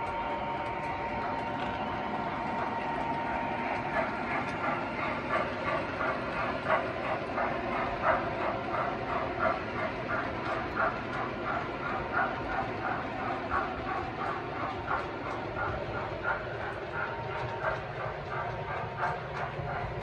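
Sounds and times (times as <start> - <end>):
model steam locomotive chuffing: 0.0 - 20.0.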